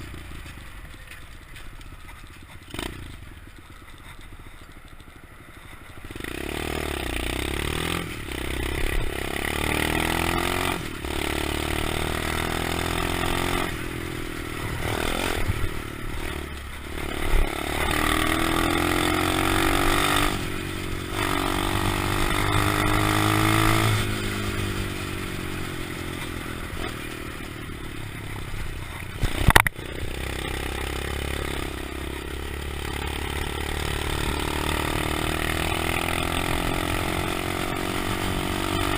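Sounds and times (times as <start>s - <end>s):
motorbike engine revving: 0.0s - 4.7s, 5.4s - 38.9s.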